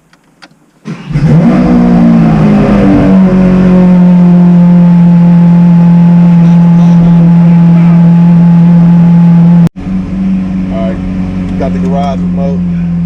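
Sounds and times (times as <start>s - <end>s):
car engine starting and idling: 0.1s - 13.0s.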